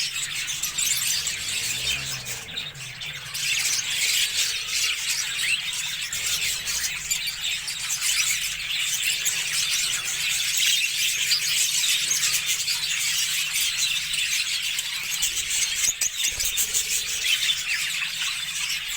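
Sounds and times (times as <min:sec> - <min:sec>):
budgerigars chattering: 0:00.0 - 0:18.9.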